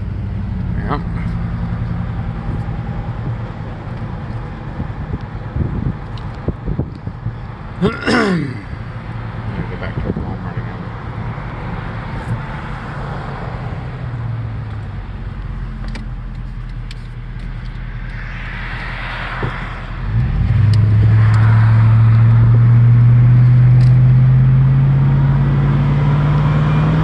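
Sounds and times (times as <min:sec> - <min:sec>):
road noise: 0:00.0 - 0:27.0
vehicle engine droning: 0:00.0 - 0:27.0.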